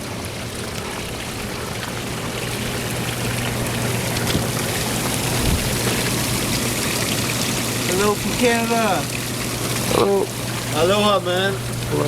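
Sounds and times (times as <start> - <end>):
hot tub water churning: 0.0 - 12.0.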